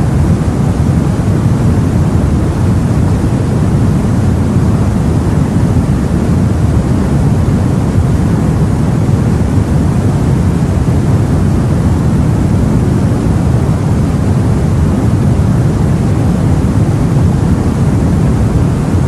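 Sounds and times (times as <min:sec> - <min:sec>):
sea rumble: 0:00.0 - 0:19.0.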